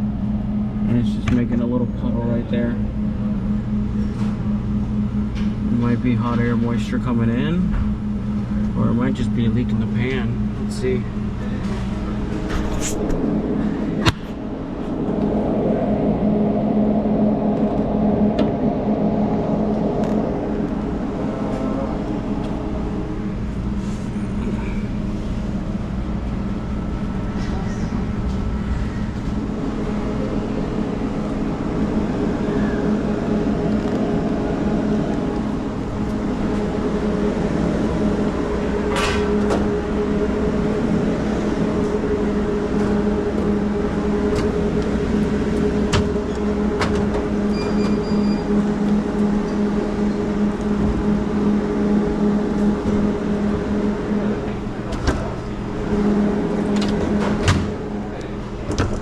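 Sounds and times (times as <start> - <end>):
refrigeration equipment humming: 0.0 - 59.0.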